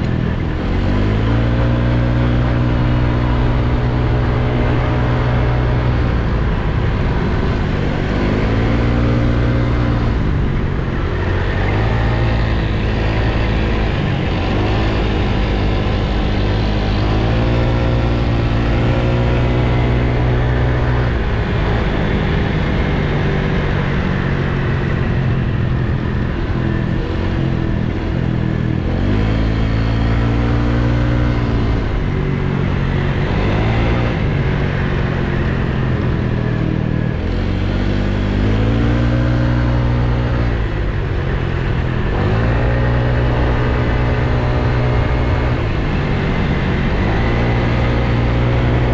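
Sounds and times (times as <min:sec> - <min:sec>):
motor scooter engine running: 0:00.0 - 0:48.9
rush of riding noise: 0:00.0 - 0:48.9.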